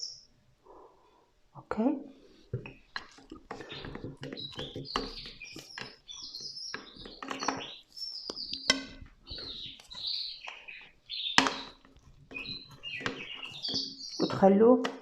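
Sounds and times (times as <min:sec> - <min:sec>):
small birds chirping: 0:00.0 - 0:01.0, 0:01.7 - 0:15.0.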